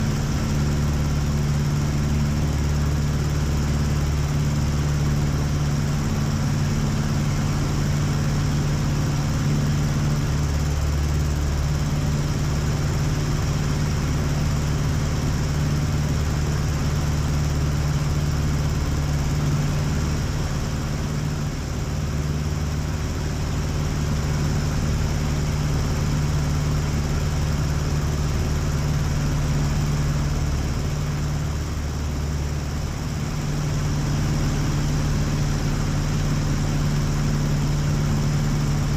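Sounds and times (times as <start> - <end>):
airplane engine and propeller drone: 0.0 - 38.9.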